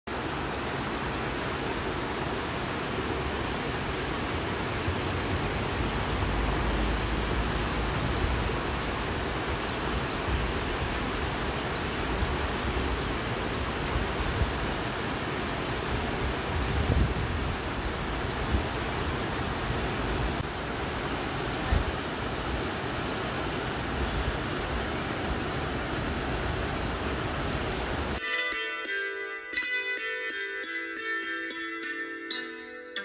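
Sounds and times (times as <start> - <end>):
waterfall rushing over boulders: 0.1 - 28.2.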